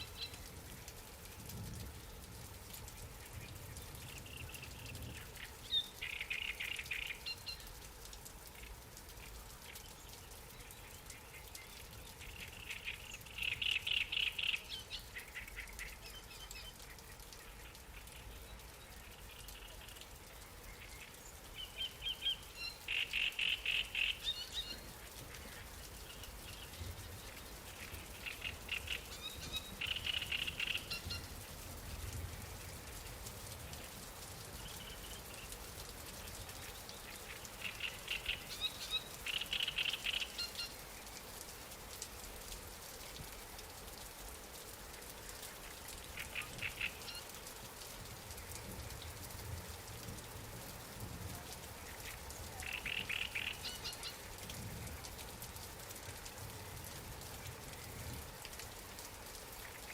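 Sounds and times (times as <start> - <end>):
light rain falling on water: 0.0 - 59.9.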